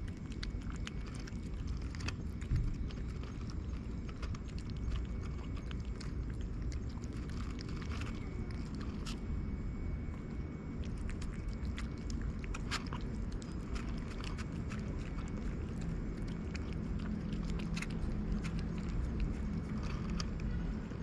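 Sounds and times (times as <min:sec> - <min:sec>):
cat chewing and lip-smacking: 0:00.0 - 0:21.0
low background rumble: 0:00.0 - 0:21.0.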